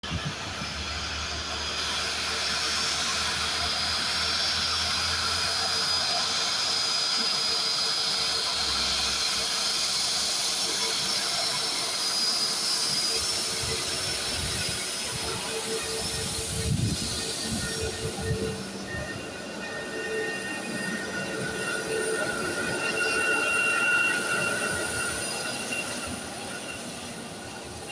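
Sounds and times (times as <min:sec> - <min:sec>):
jet engines running: 0:00.1 - 0:27.9.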